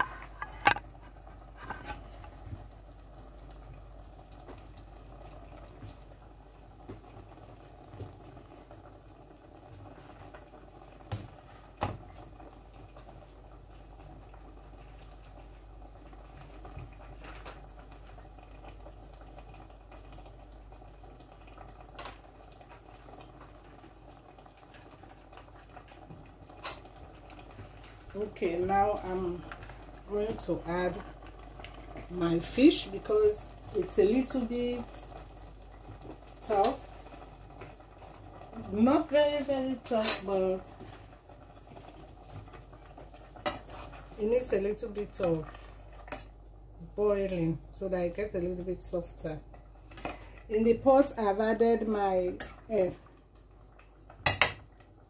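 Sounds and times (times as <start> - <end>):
pot bubbling: 0.0 - 55.0.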